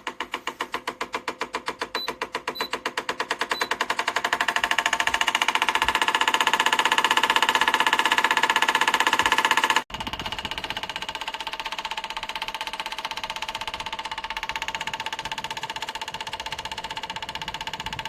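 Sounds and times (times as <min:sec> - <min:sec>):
fan motor pulsing hum: 0:00.0 - 0:18.0.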